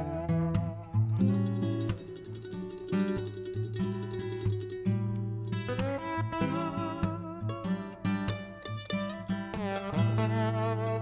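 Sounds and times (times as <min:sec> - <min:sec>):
acoustic guitar plucked and strummed: 0:00.0 - 0:11.0.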